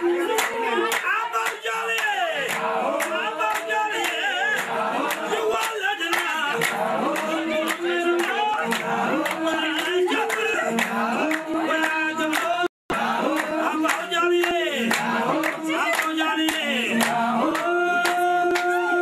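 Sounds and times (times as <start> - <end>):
group of voices singing: 0.0 - 19.0
rhythmic handclapping: 0.0 - 19.0.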